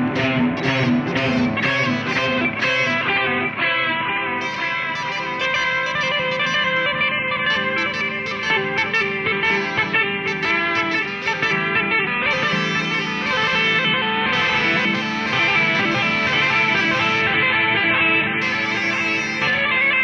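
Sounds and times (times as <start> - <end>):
electric guitar plucked notes: 0.0 - 20.0.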